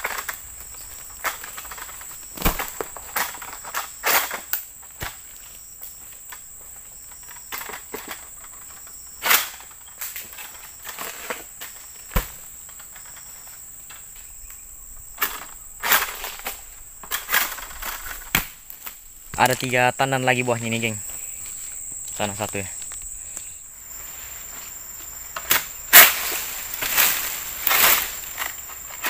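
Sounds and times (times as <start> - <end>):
high-pitched insect drone: 0.0 - 29.0
leaves rustling: 0.0 - 29.0.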